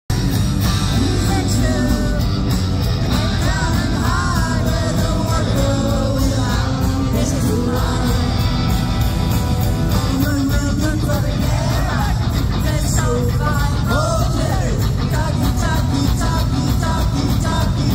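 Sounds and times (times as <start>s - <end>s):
drums beating: 0.1s - 17.9s
live rock band playing: 0.1s - 17.9s
man singing: 0.8s - 8.8s, 9.8s - 17.9s.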